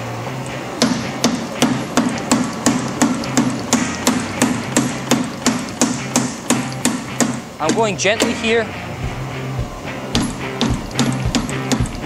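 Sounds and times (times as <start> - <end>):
drive motor humming: 0.0 - 12.0
power hammer striking hot steel: 0.8 - 12.0.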